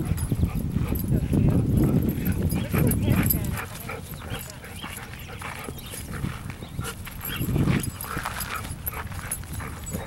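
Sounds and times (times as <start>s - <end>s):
dogs vocalizing: 0.0s - 10.0s.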